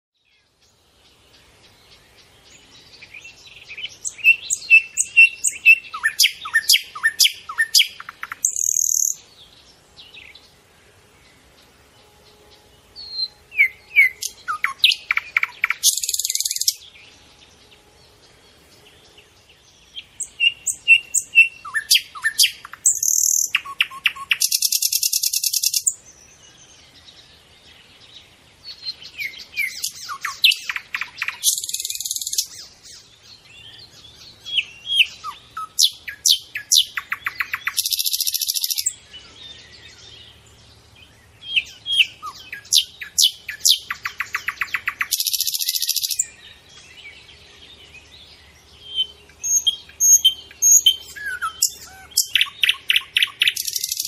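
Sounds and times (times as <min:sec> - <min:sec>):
songbird chirping and trilling: 0:00.2 - 0:54.0.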